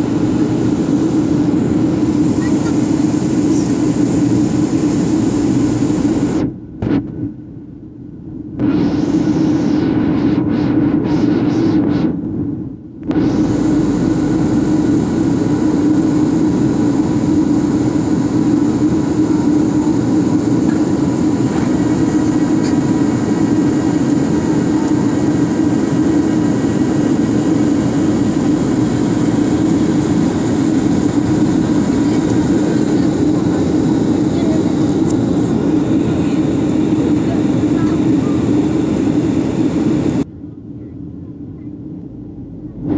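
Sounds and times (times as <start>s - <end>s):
airliner cabin engine drone: 0.0s - 42.9s.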